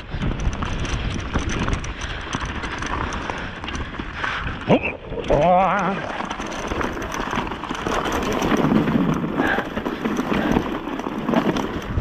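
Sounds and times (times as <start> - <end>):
bike rattling over bumps: 0.0 - 12.0.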